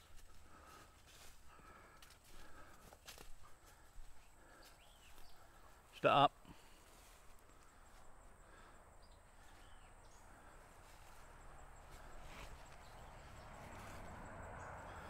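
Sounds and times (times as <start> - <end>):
faint footsteps: 0.0 - 5.9, 6.5 - 8.2, 9.3 - 15.0
rustling of grass and leaves: 0.0 - 15.0.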